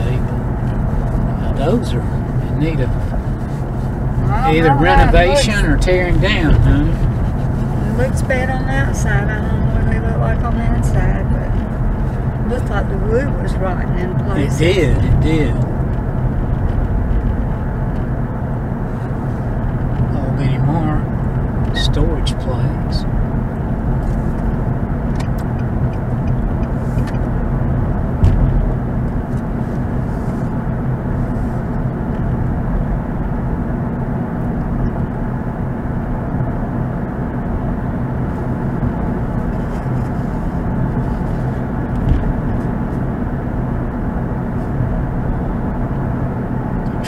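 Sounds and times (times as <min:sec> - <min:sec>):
low engine hum: 0:00.0 - 0:47.0.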